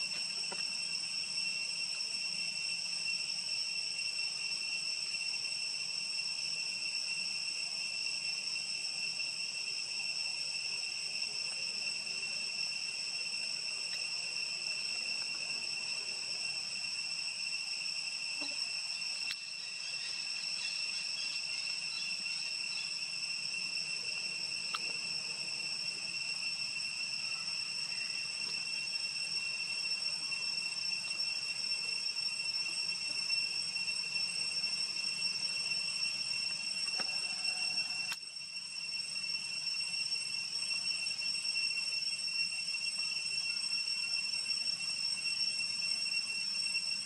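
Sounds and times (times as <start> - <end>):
forest insects droning: 0.0 - 47.0.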